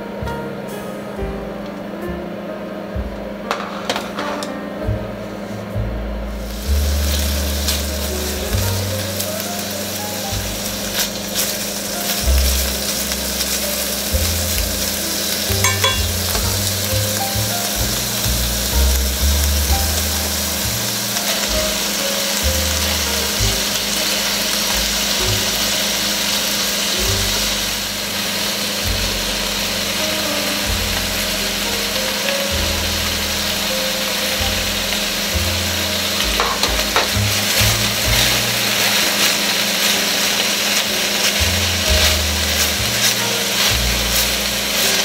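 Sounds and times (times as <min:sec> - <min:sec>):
food sizzling in a pan: 0:05.6 - 0:45.0.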